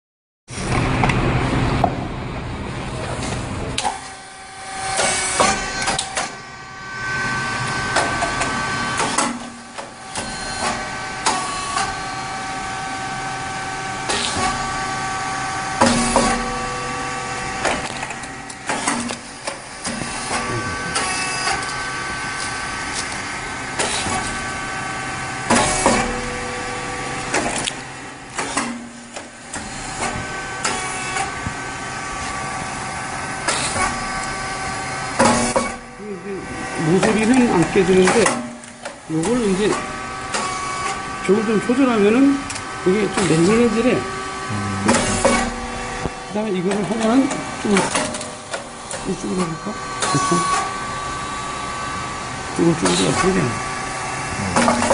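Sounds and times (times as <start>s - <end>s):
machine drive whine: 0.5s - 54.9s.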